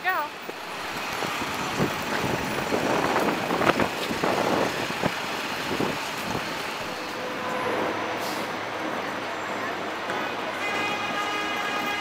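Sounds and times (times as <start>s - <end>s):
pedestrians passing: 0.0s - 12.0s
traffic running: 0.0s - 12.0s.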